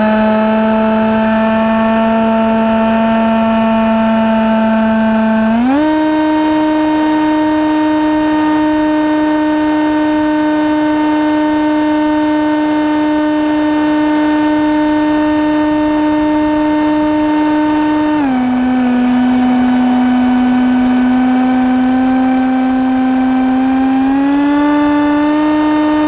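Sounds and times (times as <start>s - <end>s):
model aircraft propeller whine: 0.0s - 26.0s.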